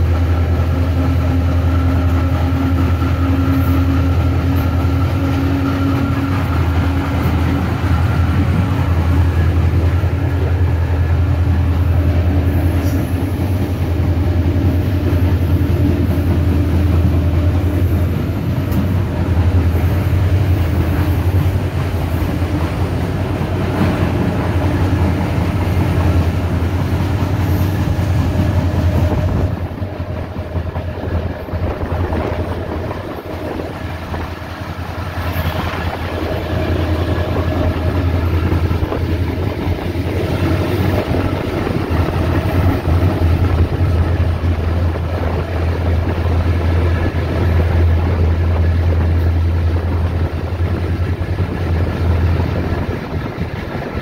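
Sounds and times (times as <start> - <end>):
diesel locomotive engine under load: 0.0 - 54.0
train wheels running on rails: 0.0 - 54.0.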